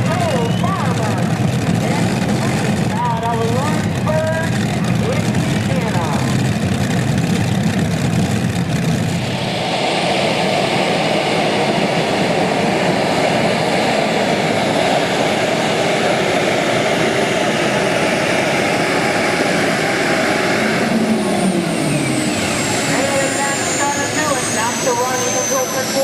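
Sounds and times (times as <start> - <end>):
high whine falling in pitch: 0.0 - 26.0
vehicle engine at full power: 0.0 - 26.0.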